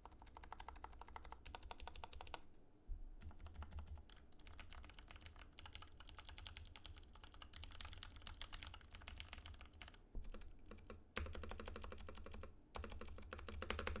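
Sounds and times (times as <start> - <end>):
mechanical keyboard typing: 0.0 - 2.4, 3.2 - 14.0.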